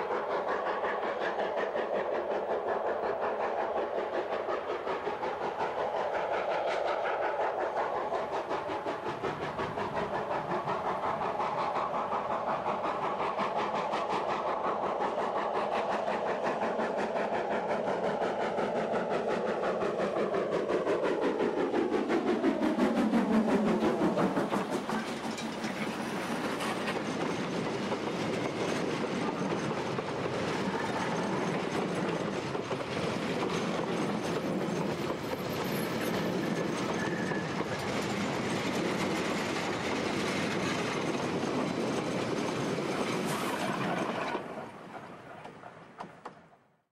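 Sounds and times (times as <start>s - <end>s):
steam locomotive exhaust beats: 0.0s - 46.7s.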